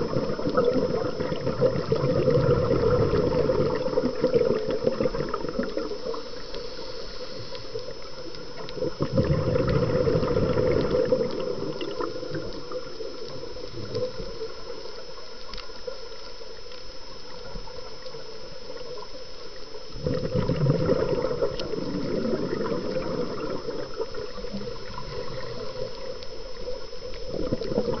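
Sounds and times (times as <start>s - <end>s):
faint high whine: 0.0s - 28.0s
muffled underwater wash: 0.0s - 28.0s
water bubbling and gurgling: 0.0s - 28.0s.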